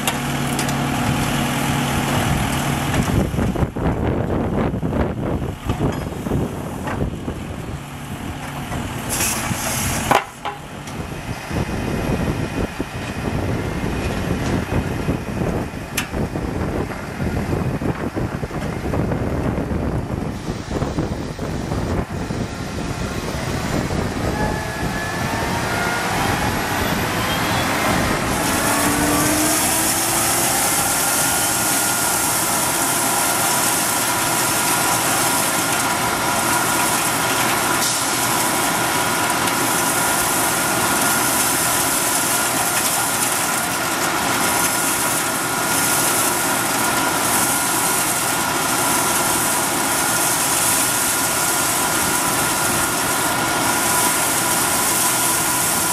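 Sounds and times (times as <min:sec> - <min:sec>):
blower whine: 0:00.0 - 0:55.9.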